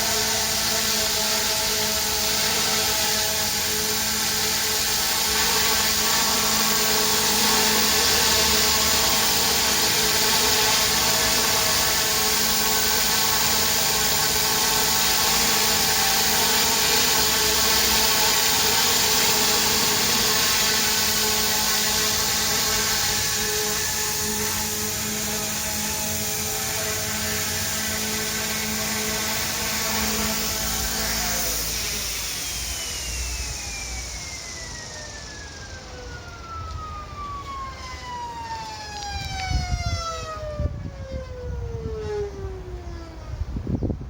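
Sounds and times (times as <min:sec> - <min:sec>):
rc helicopter motor and rotors whine: 0:00.0 - 0:44.0.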